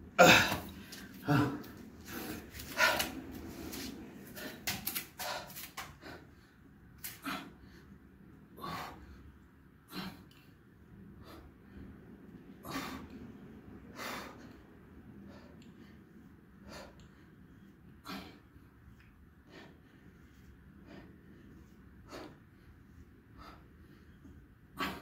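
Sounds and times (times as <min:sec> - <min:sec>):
man breathing hard: 0:00.2 - 0:10.4, 0:11.1 - 0:25.0.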